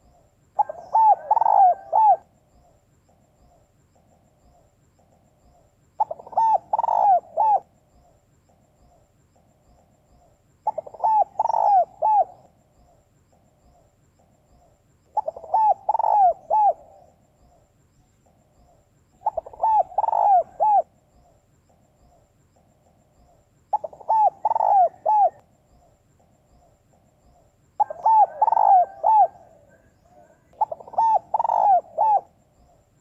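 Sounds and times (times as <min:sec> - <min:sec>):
dove cooing: 0:00.0 - 0:07.8, 0:10.6 - 0:13.9, 0:14.6 - 0:17.6, 0:18.3 - 0:21.4, 0:22.1 - 0:32.8.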